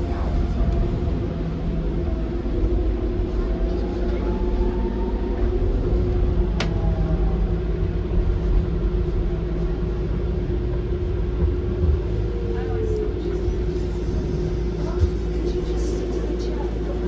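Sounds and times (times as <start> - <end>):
train rumbling and humming: 0.0 - 17.0.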